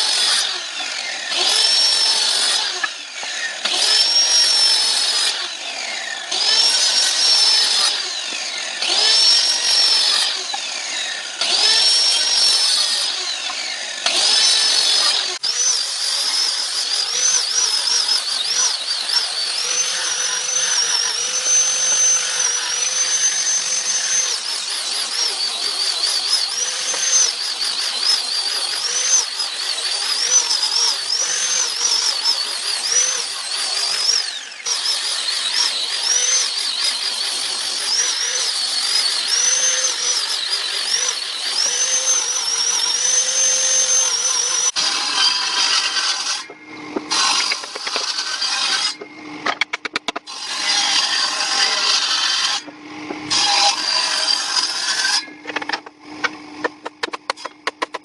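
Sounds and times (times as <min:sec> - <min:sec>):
power tool whining cutting wood: 0:00.0 - 0:58.0.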